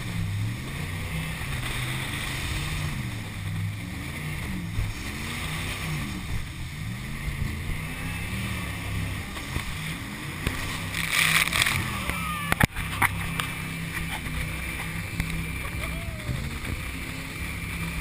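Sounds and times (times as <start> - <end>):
jet boat engine revving: 0.0 - 18.0
rush of water and wind: 0.0 - 18.0.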